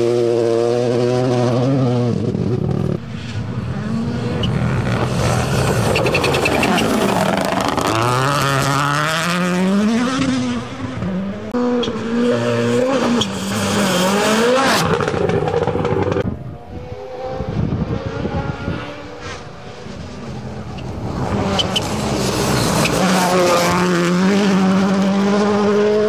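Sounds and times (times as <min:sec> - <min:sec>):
rally car engines accelerating: 0:00.0 - 0:26.0.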